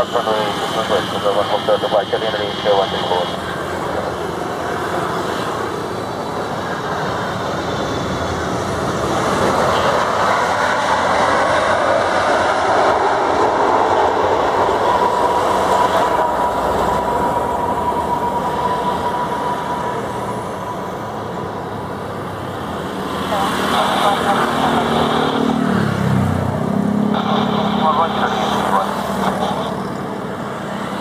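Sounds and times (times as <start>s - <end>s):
jet engine rushing noise: 0.0s - 31.0s
steady jet whine: 0.0s - 31.0s.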